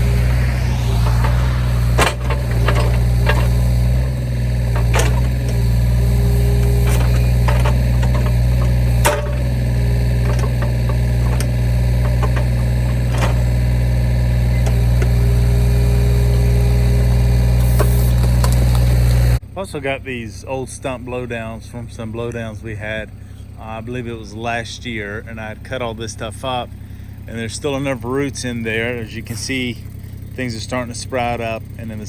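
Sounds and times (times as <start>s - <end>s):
excavator engine running: 0.0s - 32.0s.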